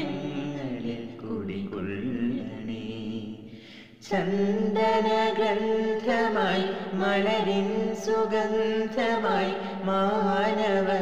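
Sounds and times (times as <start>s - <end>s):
boy and girl singing: 0.0s - 3.4s, 4.0s - 11.0s.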